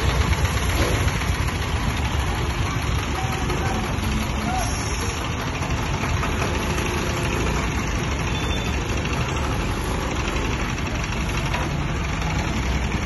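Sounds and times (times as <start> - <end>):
diesel generator running: 0.0 - 13.0.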